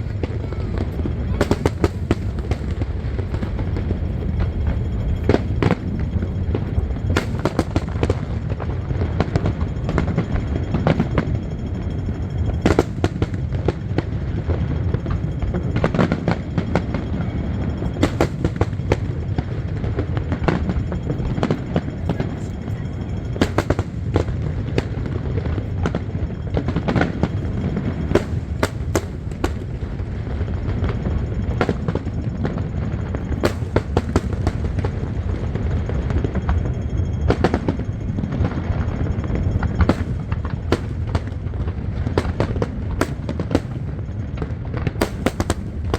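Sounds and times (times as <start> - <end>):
fireworks sharp bangs: 0.0 - 11.4, 12.5 - 36.6, 37.2 - 45.9
fireworks rumble: 0.0 - 45.9.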